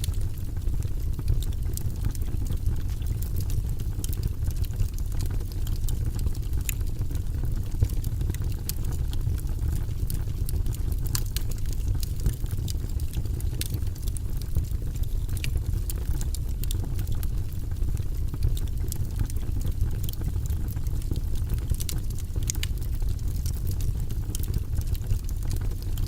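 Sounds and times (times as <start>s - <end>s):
low rumble of fire flames: 0.0s - 26.0s
wood fire crackling and popping: 0.0s - 26.0s.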